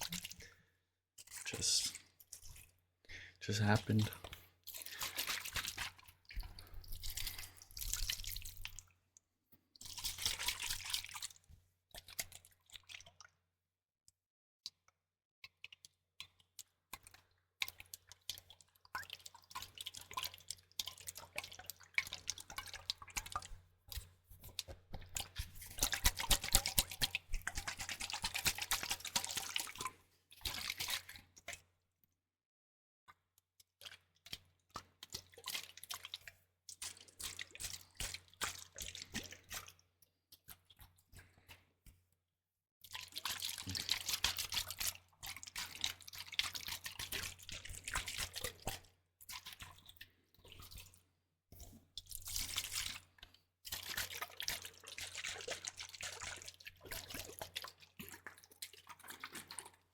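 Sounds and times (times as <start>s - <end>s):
liquid dripping and sloshing: 0.0s - 32.1s, 33.1s - 42.2s, 42.8s - 59.9s.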